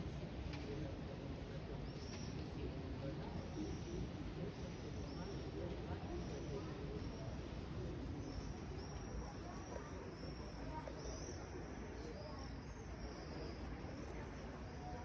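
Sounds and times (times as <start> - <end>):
murmur of distant voices: 0.0 - 15.0.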